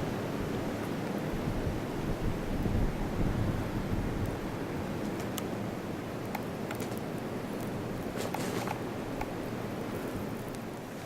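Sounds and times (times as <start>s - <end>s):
blizzard wind buffeting microphone: 0.0s - 11.0s.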